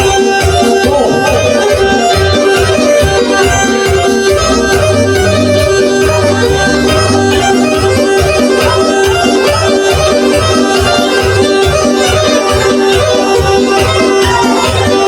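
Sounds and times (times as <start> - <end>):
band playing folk music: 0.0 - 15.0.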